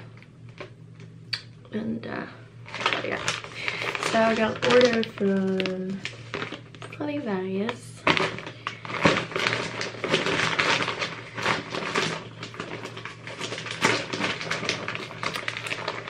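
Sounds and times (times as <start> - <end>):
faint low hum: 0.0 - 16.0
plastic bag crinkling: 2.6 - 16.0.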